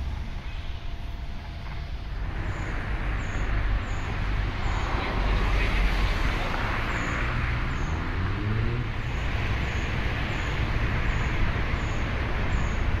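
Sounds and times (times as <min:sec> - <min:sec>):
distant road traffic: 0:00.0 - 0:13.0.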